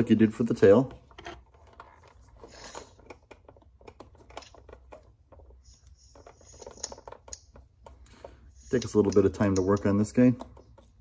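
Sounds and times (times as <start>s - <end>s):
small clicks and rubbing: 0.9s - 11.0s.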